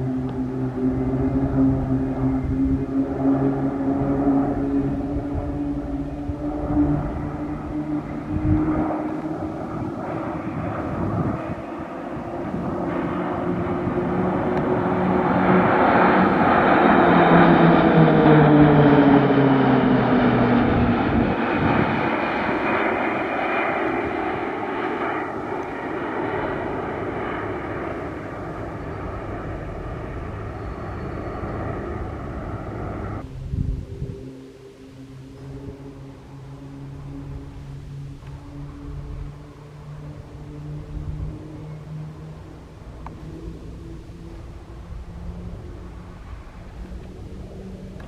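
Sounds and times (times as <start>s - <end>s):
propeller planes flying past: 0.0s - 48.0s.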